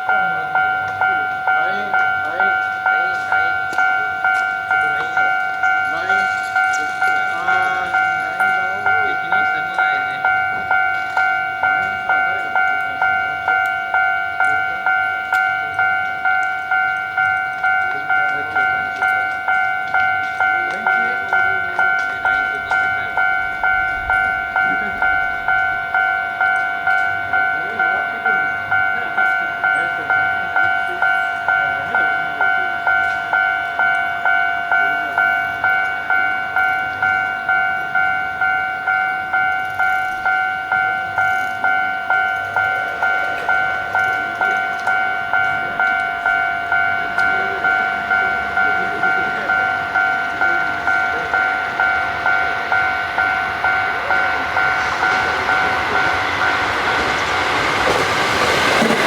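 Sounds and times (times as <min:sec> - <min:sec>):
level-crossing alarm ringing: 0:00.0 - 0:59.0
train rushing past: 0:00.0 - 0:59.0.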